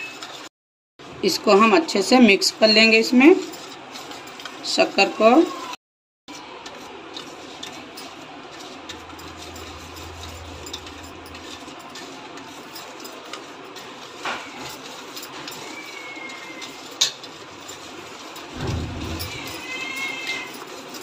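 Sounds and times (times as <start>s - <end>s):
spoon scraping in bowl: 0.0s - 0.5s, 1.9s - 5.6s, 6.3s - 21.0s.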